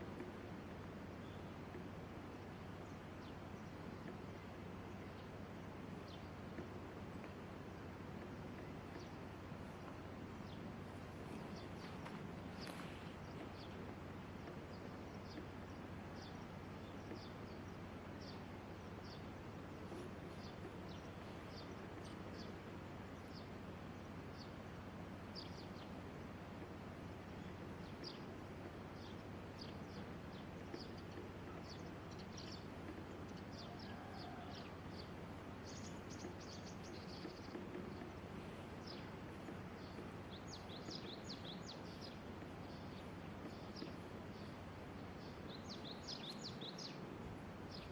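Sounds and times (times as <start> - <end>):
small birds chirping: 0.0 - 47.9
steady background hiss: 0.0 - 47.9.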